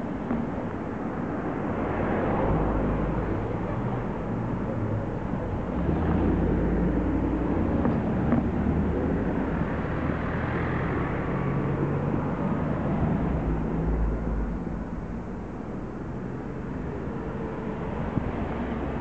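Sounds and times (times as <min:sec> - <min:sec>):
car engines humming: 0:00.0 - 0:19.0
tyres on road: 0:00.0 - 0:19.0.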